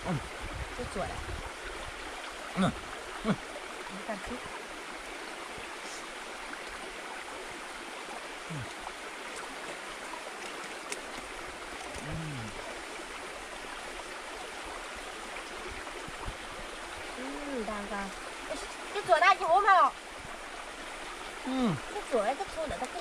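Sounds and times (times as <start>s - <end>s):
stream water flowing: 0.0s - 23.0s.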